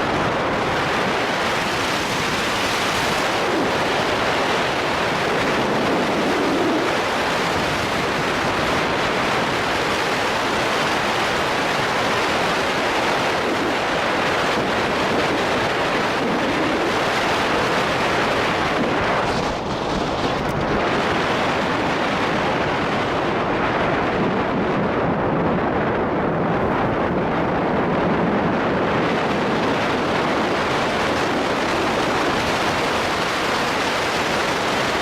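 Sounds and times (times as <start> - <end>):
car road and tyre noise: 0.0 - 35.0.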